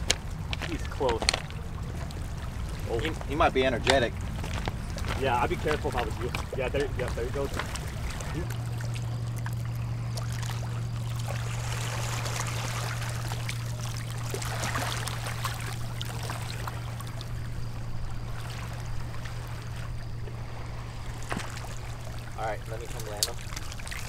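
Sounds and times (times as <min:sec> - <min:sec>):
small splashes and clicks: 0:00.0 - 0:17.4, 0:21.2 - 0:24.0
low steady hum: 0:00.0 - 0:24.0
river water lapping at bank: 0:00.0 - 0:24.0.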